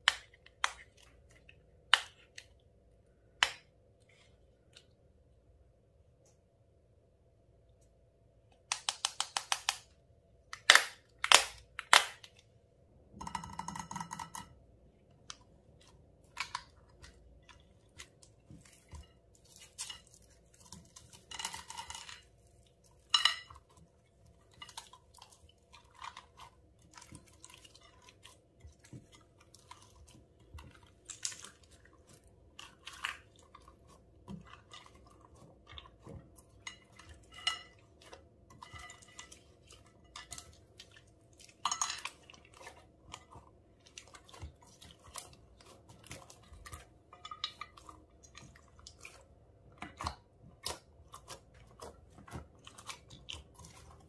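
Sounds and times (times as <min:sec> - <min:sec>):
slime squelching and popping: 0:08.6 - 0:54.0.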